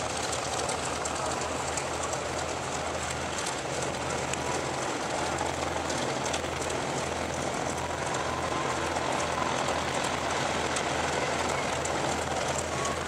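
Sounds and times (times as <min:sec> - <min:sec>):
propeller aircraft engines droning: 0:00.0 - 0:13.0.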